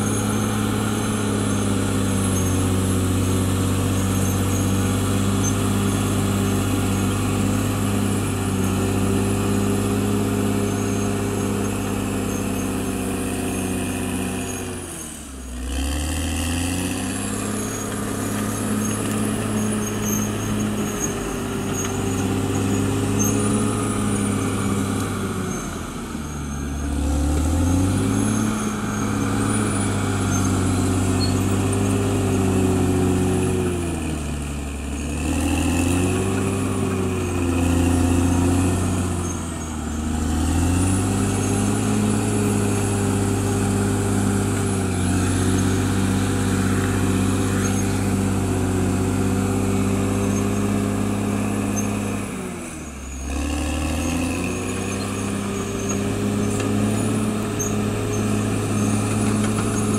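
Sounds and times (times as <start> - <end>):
bulldozer diesel engine labouring: 0.0 - 59.9.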